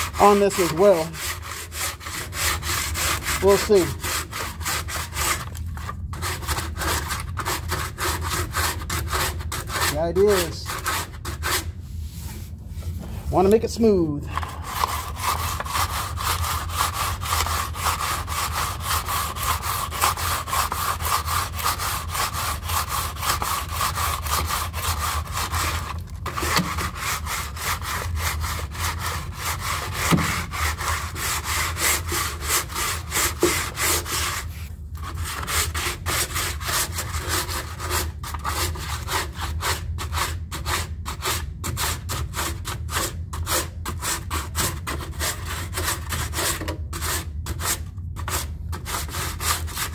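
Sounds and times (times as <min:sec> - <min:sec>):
sandpaper scraping filler: 0:00.0 - 0:13.7, 0:14.3 - 0:49.9.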